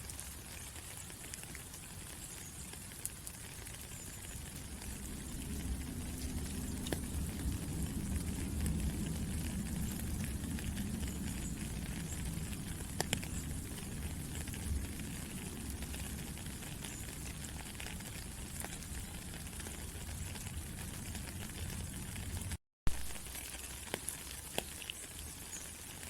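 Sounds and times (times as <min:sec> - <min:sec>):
raindrops ticking sharply: 0:00.0 - 0:26.0
steady rain falling: 0:00.0 - 0:26.0.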